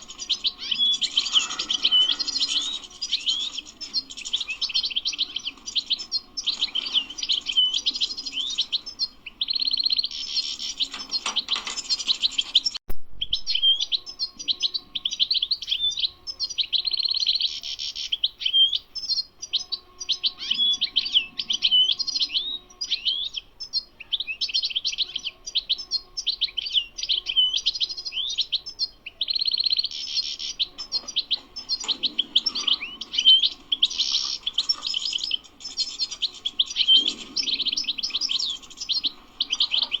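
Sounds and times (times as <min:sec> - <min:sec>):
goldfinch singing: 0:00.0 - 0:40.0.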